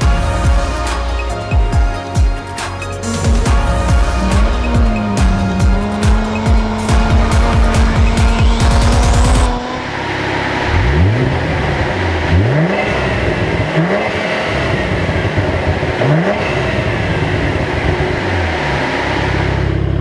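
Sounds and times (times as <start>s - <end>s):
car engine revving under acceleration: 2.8s - 20.0s.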